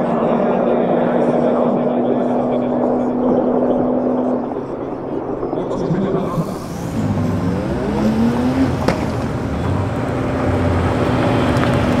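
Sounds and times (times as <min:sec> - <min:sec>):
car engine accelerating: 0:00.0 - 0:12.0
car engine idling: 0:01.0 - 0:12.0.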